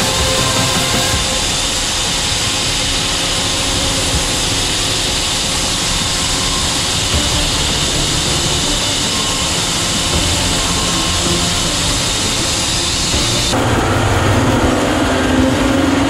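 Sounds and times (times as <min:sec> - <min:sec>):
band saw cutting log: 0:00.0 - 0:16.0
diesel engine running: 0:00.0 - 0:16.0.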